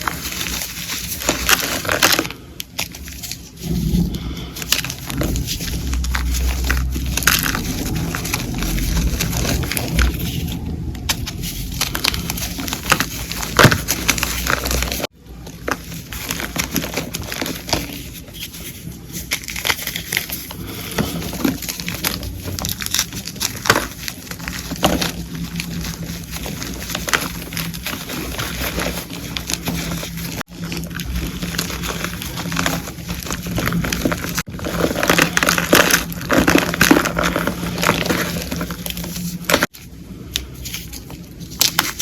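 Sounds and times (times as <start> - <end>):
chalk crunching as crushed: 0.0 - 42.0.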